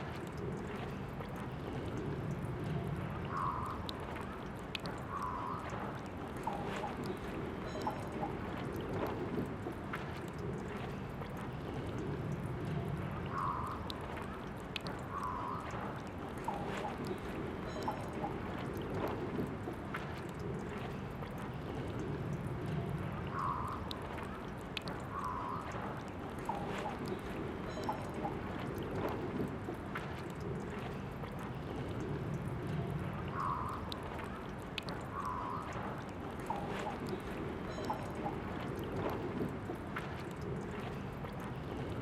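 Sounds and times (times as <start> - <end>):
water gurgling: 0.0 - 42.0
water trickling from fountain tap: 0.0 - 42.0.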